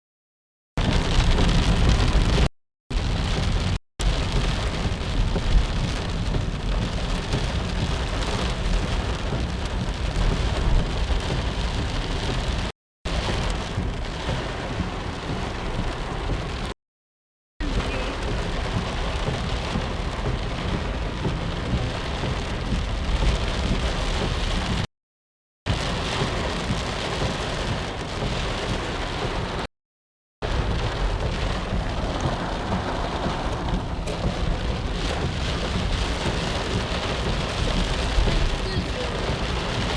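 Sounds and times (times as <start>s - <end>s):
heavy rain pouring: 0.8s - 16.8s, 17.6s - 24.9s, 25.7s - 29.7s, 30.4s - 39.9s.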